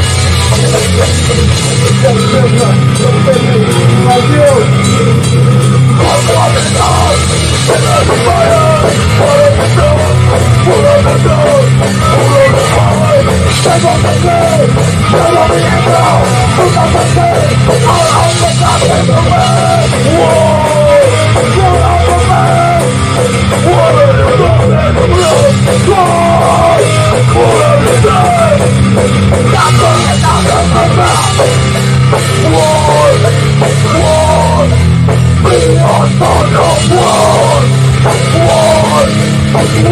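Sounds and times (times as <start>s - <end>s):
bass guitar: 0.0s - 39.9s
distorted electric guitars: 0.0s - 39.9s
pounding drum kit: 0.0s - 39.9s.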